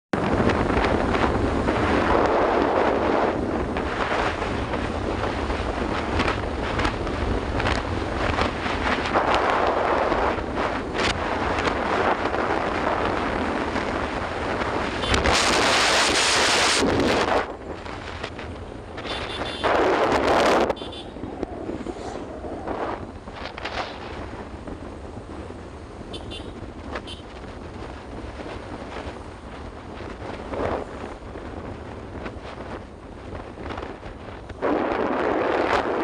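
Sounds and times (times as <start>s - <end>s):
engine and road rumble: 0.1s - 36.0s
wind buffeting microphone: 0.1s - 36.0s.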